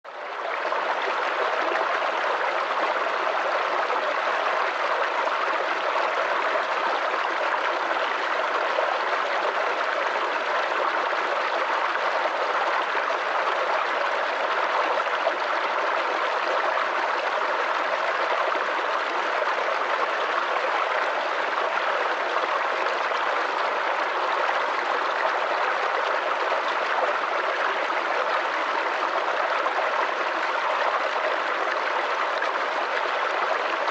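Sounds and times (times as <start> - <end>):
creek babbling over stones: 0.1 - 33.9.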